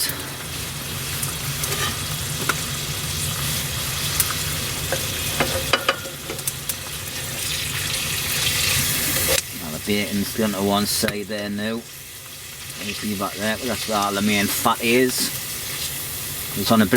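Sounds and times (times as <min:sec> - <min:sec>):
food sizzling in a pan: 0:00.0 - 0:16.9.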